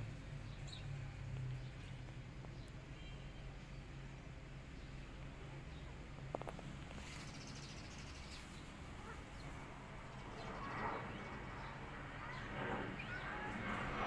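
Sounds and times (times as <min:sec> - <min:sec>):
low steady hum: 0:00.0 - 0:14.0
birds chirping: 0:00.4 - 0:14.0.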